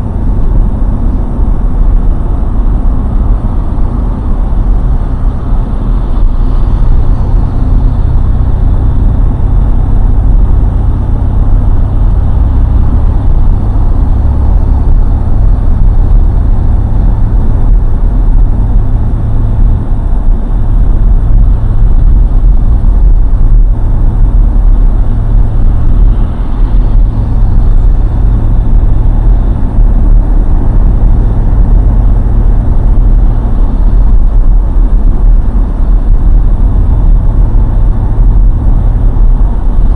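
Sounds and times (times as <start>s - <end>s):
car engine drone: 0.0s - 39.9s
tyre noise on road: 0.0s - 39.9s.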